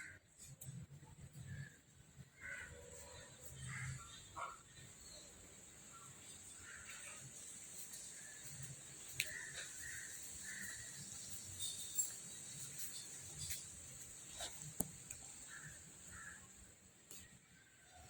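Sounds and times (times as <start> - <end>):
distant bird calls: 0.0 - 16.7.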